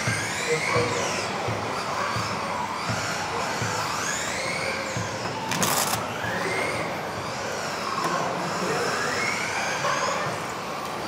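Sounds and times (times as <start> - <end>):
electric rc car motors whining: 0.0 - 11.0.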